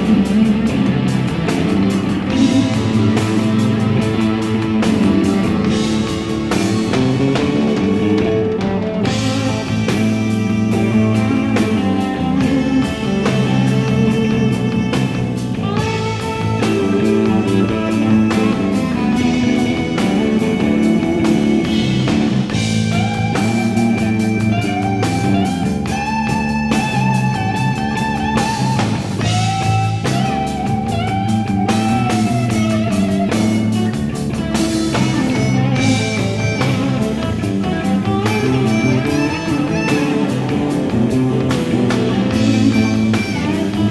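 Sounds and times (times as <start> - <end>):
bending electric guitar lead: 0.0 - 43.9
instrumental rock music: 0.0 - 43.9.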